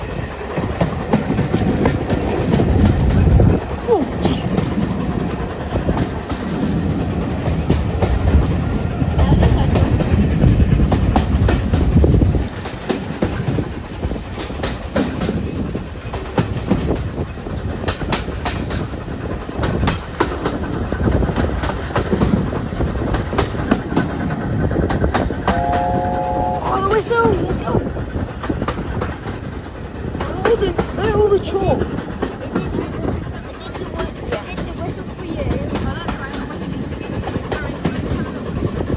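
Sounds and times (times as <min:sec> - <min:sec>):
heavy low rumble of train: 0:00.0 - 0:38.9
wheels clicking over rail joints: 0:00.0 - 0:38.9.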